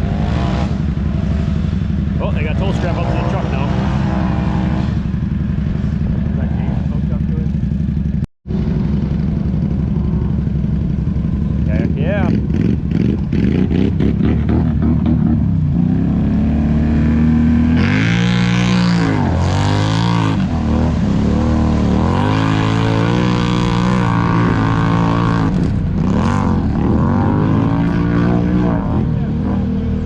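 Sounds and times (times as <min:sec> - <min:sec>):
atv engine revving: 0:00.0 - 0:30.0
engine running steadily: 0:00.0 - 0:30.0.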